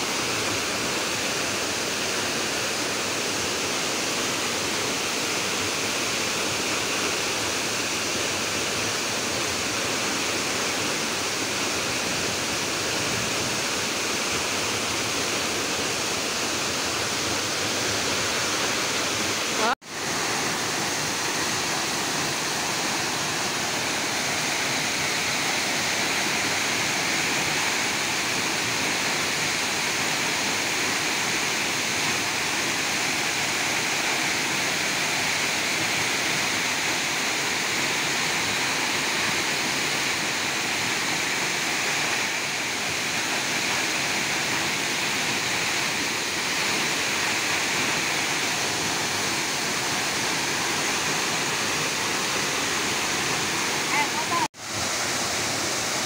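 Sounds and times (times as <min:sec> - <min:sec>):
waterfall rushing onto rocks: 0:00.0 - 0:56.0.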